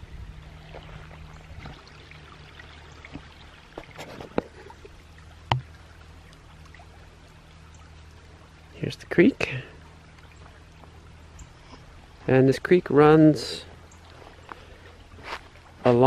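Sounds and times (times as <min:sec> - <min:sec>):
creek trickling over rocks: 0:00.0 - 0:16.0.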